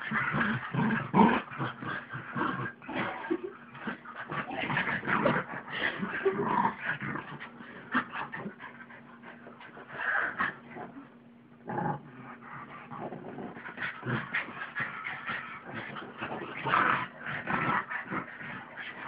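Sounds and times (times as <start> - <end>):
dogs growling and yipping: 0.0 - 19.0.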